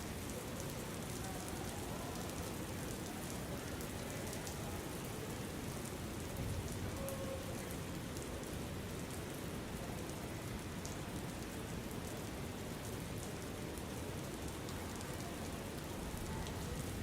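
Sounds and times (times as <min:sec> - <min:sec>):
patter of raindrops: 0:00.0 - 0:17.0.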